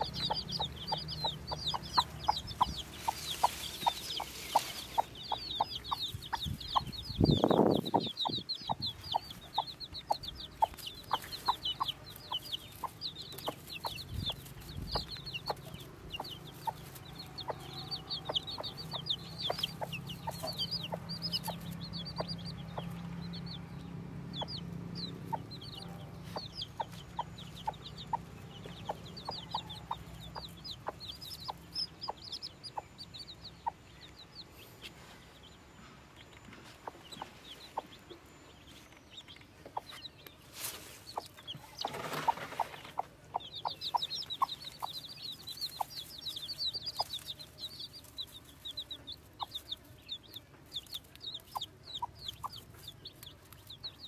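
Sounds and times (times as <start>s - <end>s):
hen clucking softly: 0.0s - 23.5s, 24.4s - 34.2s, 41.1s - 54.0s
chicks peeping: 0.0s - 54.0s.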